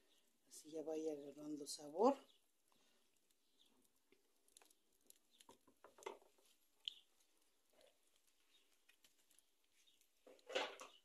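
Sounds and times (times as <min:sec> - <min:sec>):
wood fire ticking and popping: 0:01.4 - 0:11.0.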